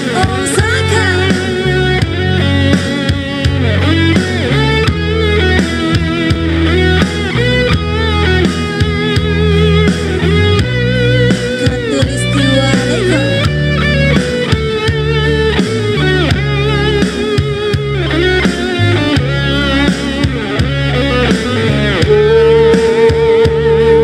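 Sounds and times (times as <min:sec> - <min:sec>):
bass line: 0:00.0 - 0:24.0
electric guitar lead: 0:00.0 - 0:24.0.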